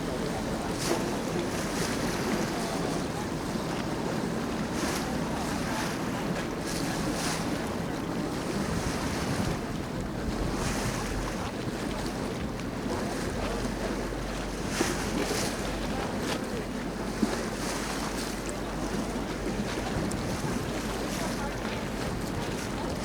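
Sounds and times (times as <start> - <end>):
boat engine drone: 0.0 - 23.0
water rushing along hull: 0.0 - 23.0.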